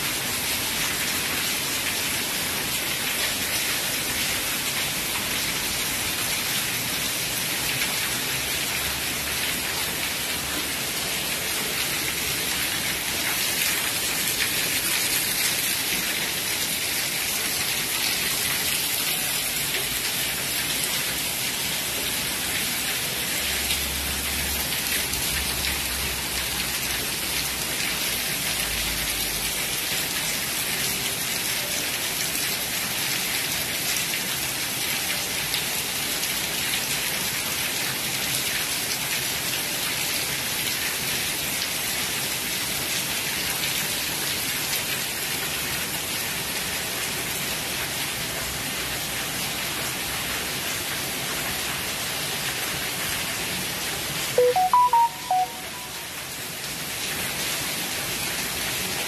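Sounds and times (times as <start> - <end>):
heavy rain on concrete: 0.0 - 59.0.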